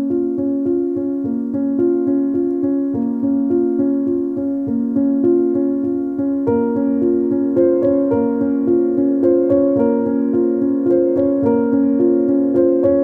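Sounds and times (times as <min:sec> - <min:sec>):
keyboard melody: 0:00.0 - 0:13.0.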